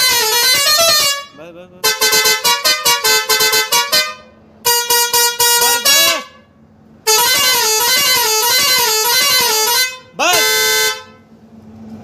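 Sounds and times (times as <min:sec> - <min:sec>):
pressure horn honking: 0:00.0 - 0:11.4.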